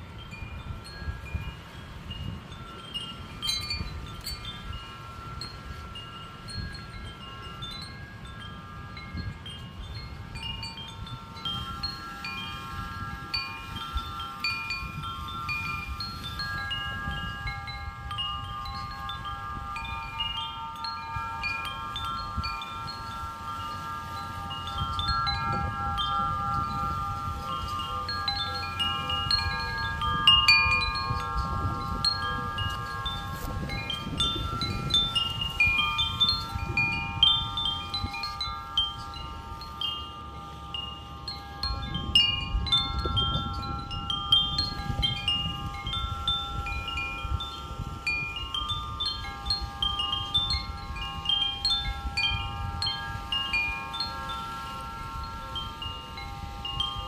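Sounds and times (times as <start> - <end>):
wind chimes ringing: 0.0 - 57.0
wind rumble on microphone: 0.0 - 57.0.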